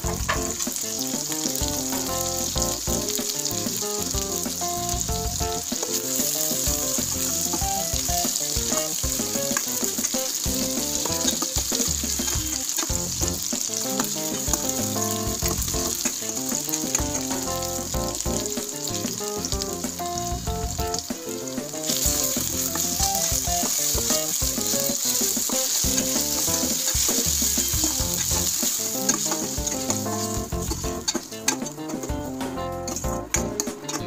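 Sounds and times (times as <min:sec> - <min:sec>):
onions sizzling in oil: 0:00.0 - 0:32.1
stirring in pan: 0:00.0 - 0:34.0.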